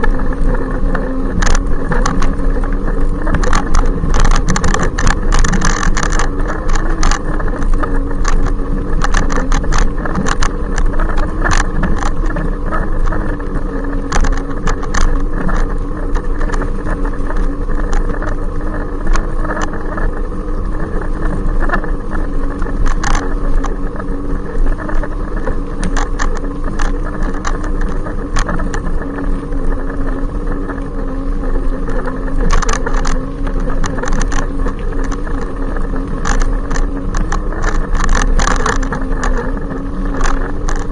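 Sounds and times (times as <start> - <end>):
short clicks and rattles: 0.0 - 20.2, 20.9 - 31.0, 31.8 - 40.9
electric motor whine: 0.0 - 40.9
low rumble: 0.0 - 40.9.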